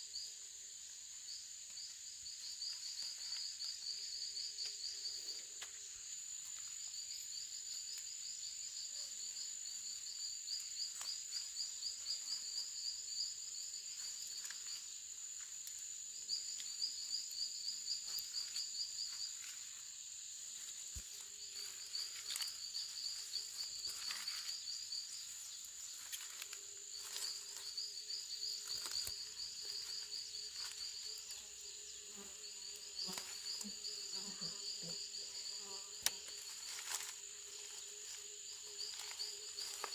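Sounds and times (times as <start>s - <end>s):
insects buzzing: 0.0s - 39.9s
rapid pulsed insect chirping: 0.0s - 39.9s.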